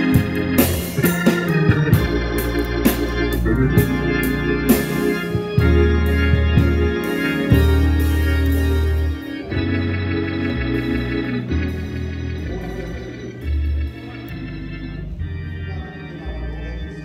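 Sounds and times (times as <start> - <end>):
organ playing sustained chords: 0.0 - 17.0.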